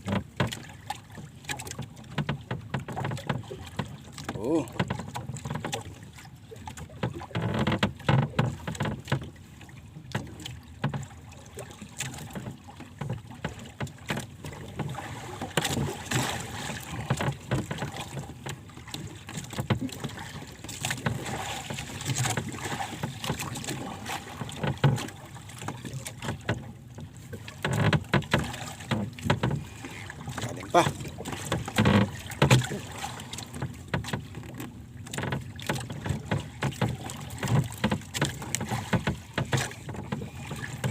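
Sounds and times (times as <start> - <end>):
water splashing against boat: 0.0 - 40.9.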